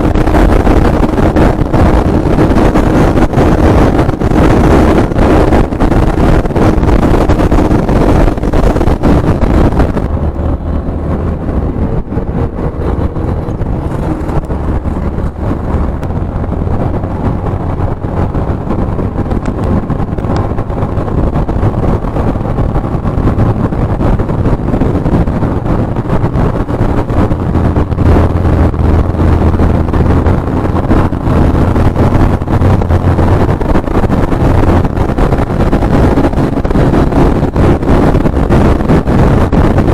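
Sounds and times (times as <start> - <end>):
motorcycle engine droning: 0.0 - 39.9
wind buffeting microphone: 0.0 - 39.9.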